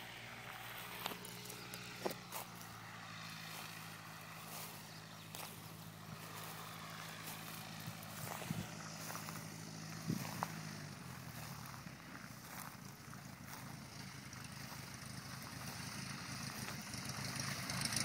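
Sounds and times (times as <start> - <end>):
distant propeller engine drone: 0.0 - 18.0.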